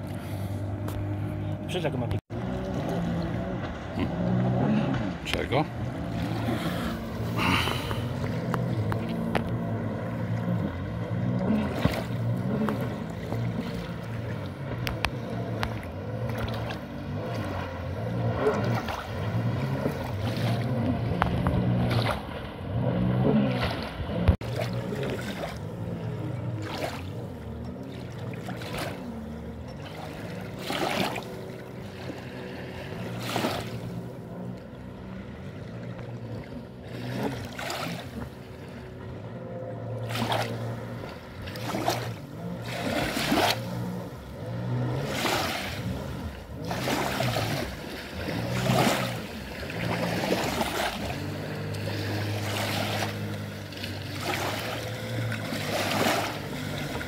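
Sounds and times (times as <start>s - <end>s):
jet ski engine drone: 0.0s - 57.0s.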